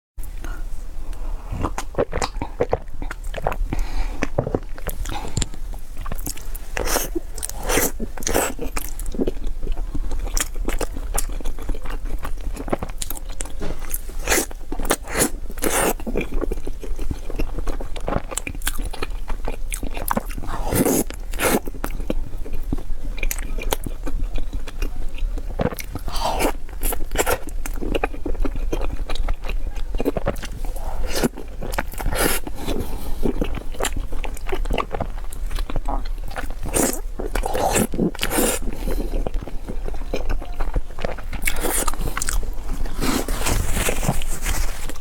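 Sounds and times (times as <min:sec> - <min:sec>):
person chewing crunchy food: 0:00.2 - 0:45.0.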